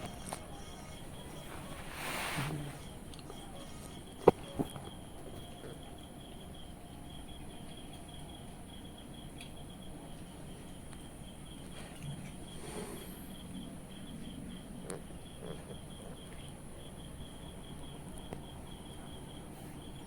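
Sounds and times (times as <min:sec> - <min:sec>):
insect trilling: 0:00.0 - 0:09.9, 0:12.4 - 0:20.0
low background noise: 0:00.0 - 0:20.0.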